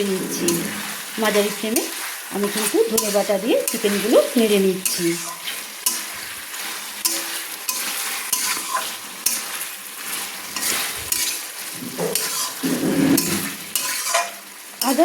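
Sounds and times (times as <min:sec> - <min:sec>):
chicken sizzling in hot oil: 0:00.0 - 0:15.0
spatula scraping pan: 0:00.0 - 0:15.0.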